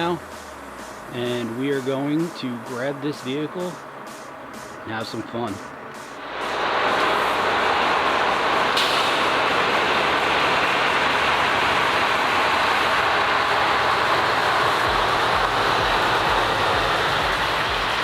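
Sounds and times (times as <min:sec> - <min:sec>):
large truck engine and road noise: 0:00.0 - 0:18.0.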